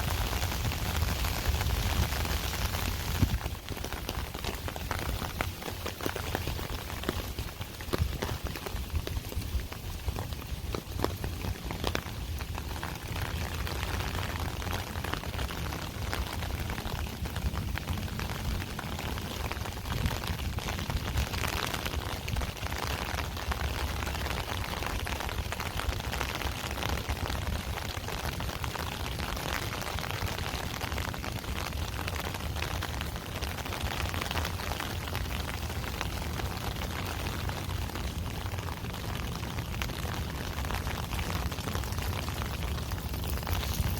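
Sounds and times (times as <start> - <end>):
steady rain pattering: 0.0 - 43.9.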